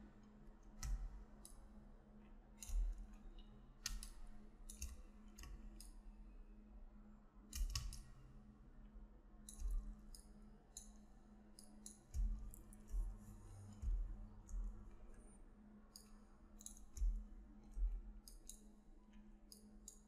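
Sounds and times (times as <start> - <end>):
computer mouse clicking: 0.0 - 1.8, 2.6 - 6.0, 7.4 - 8.2, 9.4 - 20.0
faint steady hum: 0.0 - 20.0.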